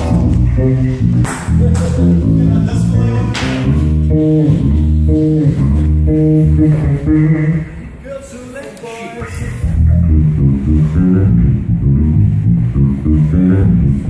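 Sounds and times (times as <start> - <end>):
bass guitar: 0.0 - 8.0, 9.3 - 14.0
electric guitar: 0.0 - 8.0, 9.6 - 14.0.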